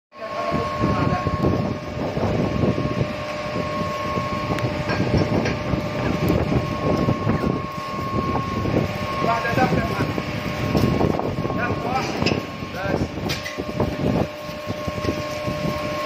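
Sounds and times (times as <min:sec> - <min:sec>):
induction furnace whine and rumble: 0:00.1 - 0:16.0.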